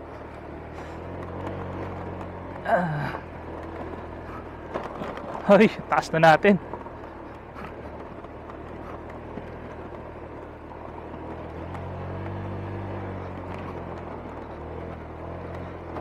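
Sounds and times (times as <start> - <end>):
motorcycle engine pulling uphill: 0.0 - 16.0.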